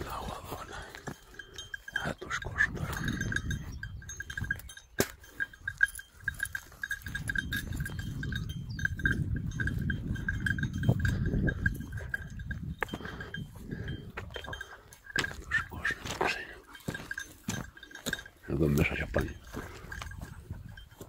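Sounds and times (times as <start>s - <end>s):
small bell ringing: 0.6s - 21.0s.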